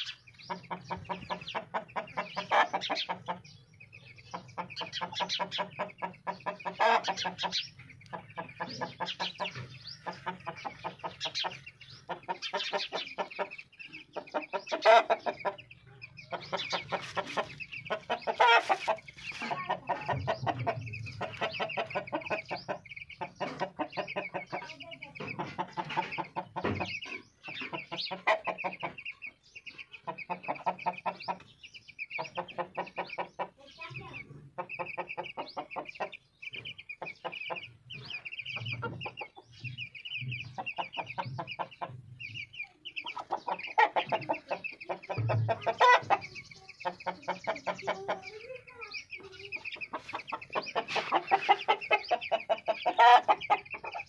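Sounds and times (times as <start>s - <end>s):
chickens clucking: 0.0s - 54.0s
chicks peeping: 0.0s - 54.0s.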